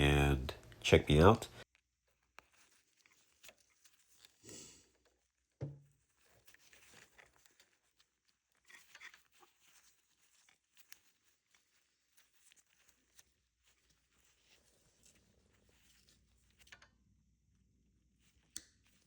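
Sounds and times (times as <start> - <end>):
faint handling rustles and ticks: 0.7 - 17.1.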